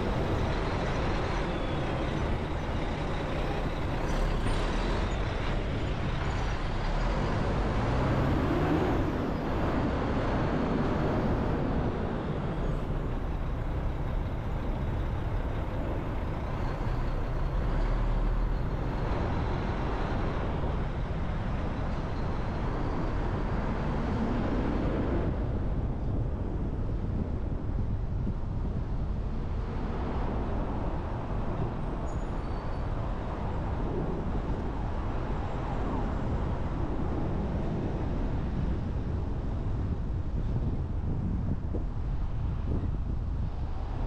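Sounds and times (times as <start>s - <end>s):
engine and tyre noise: 0.0s - 44.0s.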